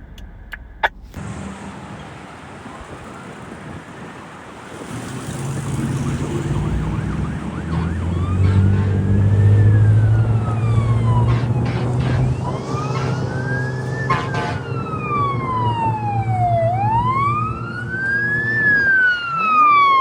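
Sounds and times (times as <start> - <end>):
truck engine drone: 0.0 - 20.0
fire engine siren wailing: 1.3 - 20.0.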